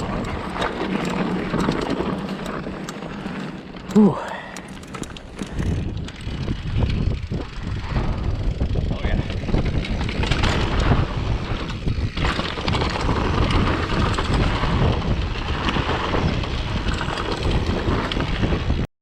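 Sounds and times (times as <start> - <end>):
mountain bike rolling on dirt: 0.0 - 18.9
wind buffeting microphone: 0.0 - 18.9.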